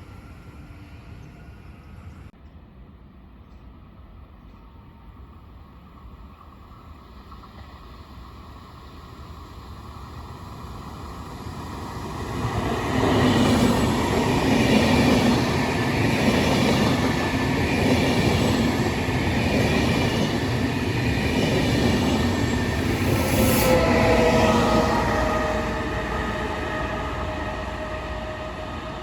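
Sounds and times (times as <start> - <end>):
train running on rails: 0.0 - 29.0.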